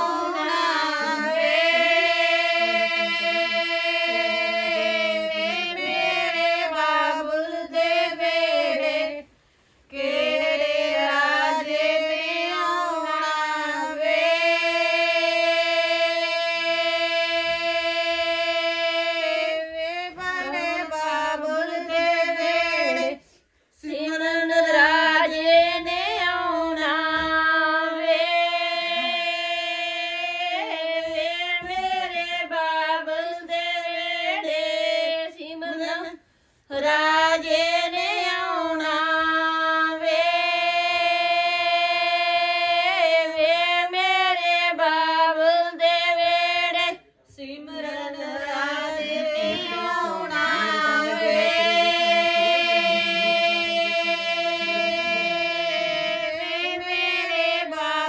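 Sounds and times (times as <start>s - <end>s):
women singing folk song: 0.0s - 58.0s.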